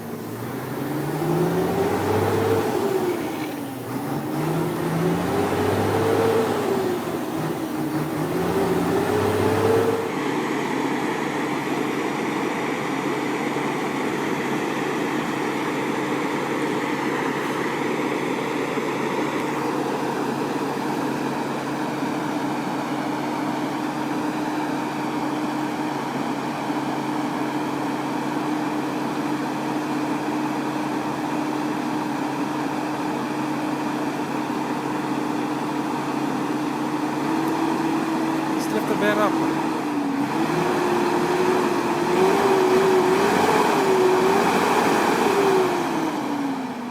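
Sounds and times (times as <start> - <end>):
dump truck engine: 0.0 - 46.9.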